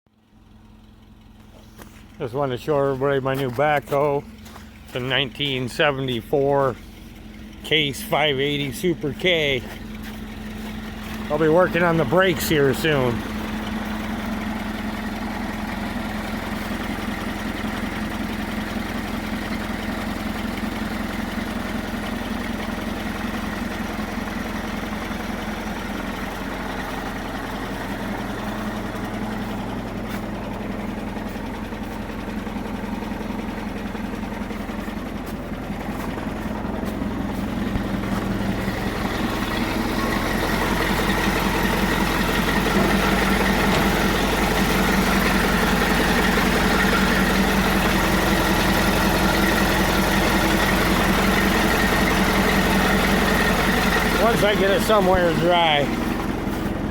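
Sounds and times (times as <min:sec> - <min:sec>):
backhoe engine idling: 0:00.1 - 0:56.9.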